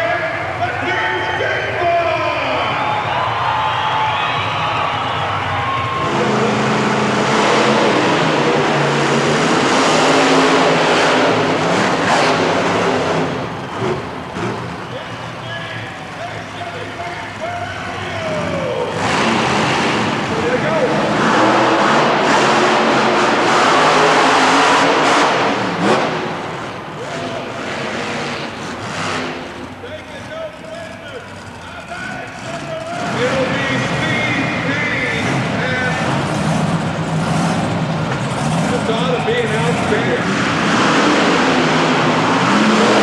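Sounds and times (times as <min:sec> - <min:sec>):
monster truck engines running: 0:00.0 - 0:43.0.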